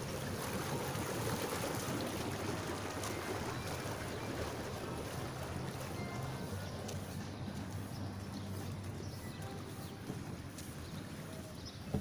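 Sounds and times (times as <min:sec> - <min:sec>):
water bubbling from hot tub jets: 0:00.0 - 0:12.0.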